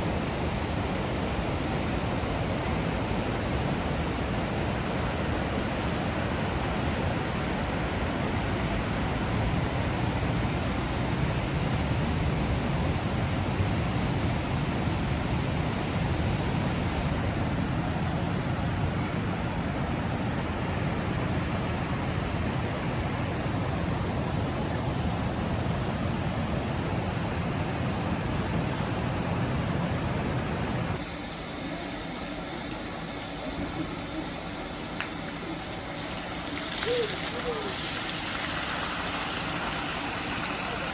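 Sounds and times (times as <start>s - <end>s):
moving vehicle rumble and hiss: 0.0s - 40.9s.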